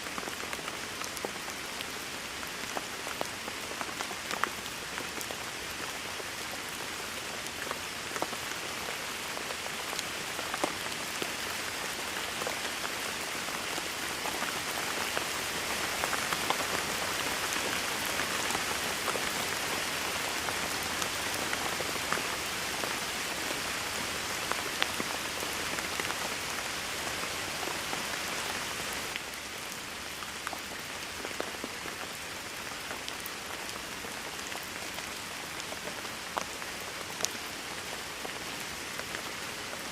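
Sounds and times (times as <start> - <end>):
rain falling: 0.0 - 39.9
raindrops ticking close by: 0.0 - 39.9.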